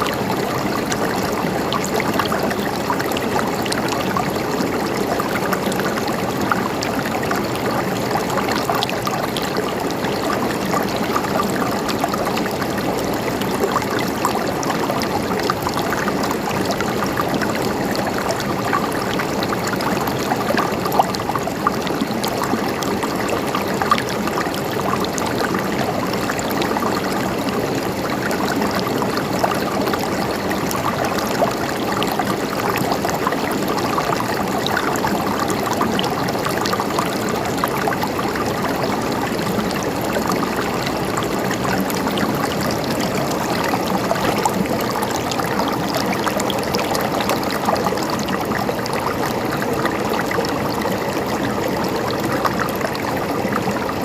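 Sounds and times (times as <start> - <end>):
stream trickling and gurgling: 0.0 - 54.0.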